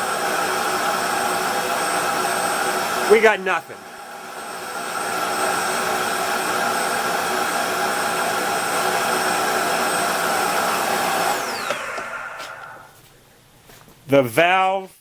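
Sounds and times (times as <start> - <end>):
electric pump whining: 0.0 - 13.0.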